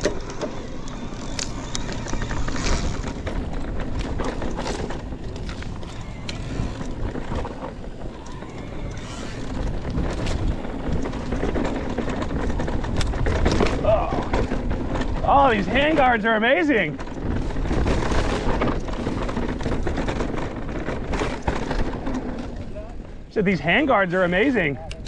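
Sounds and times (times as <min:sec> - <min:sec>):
bike clicks and rattles: 0:00.0 - 0:25.0
bike rolling on dirt: 0:00.0 - 0:25.0
wind noise: 0:00.0 - 0:25.0.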